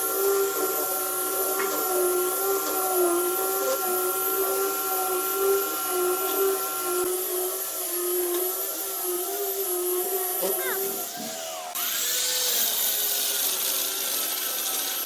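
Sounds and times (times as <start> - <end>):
power tool motor running: 0.0 - 15.0.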